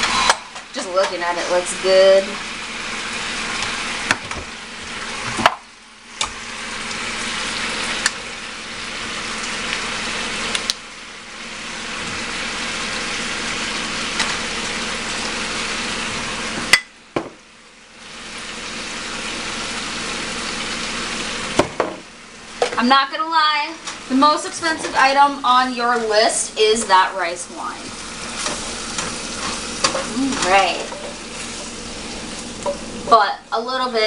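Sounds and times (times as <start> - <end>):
food sizzling in a hot pan: 0.0 - 34.0.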